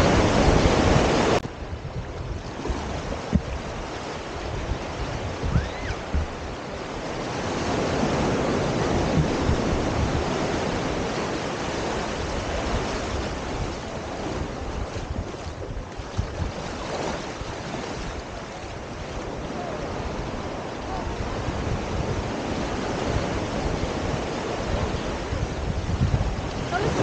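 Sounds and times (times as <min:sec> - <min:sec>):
ocean surf on sandy beach: 0:00.0 - 0:27.0
wind buffeting microphone: 0:00.0 - 0:27.0.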